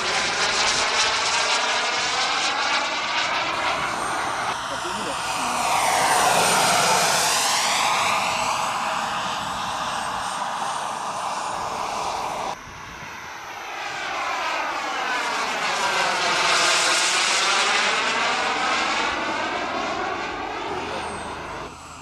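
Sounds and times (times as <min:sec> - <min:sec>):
jet passing whoosh: 0:00.0 - 0:22.0
model jet turbine engine: 0:00.0 - 0:22.0.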